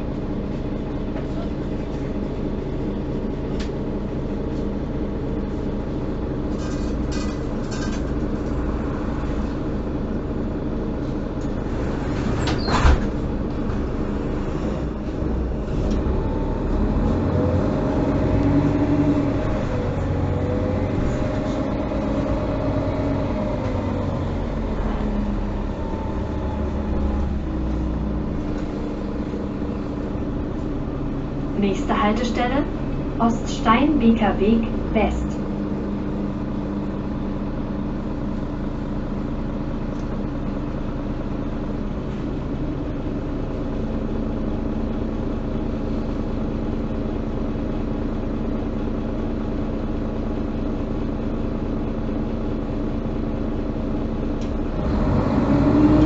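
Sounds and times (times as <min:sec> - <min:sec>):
bus diesel engine from inside: 0:00.0 - 0:56.0.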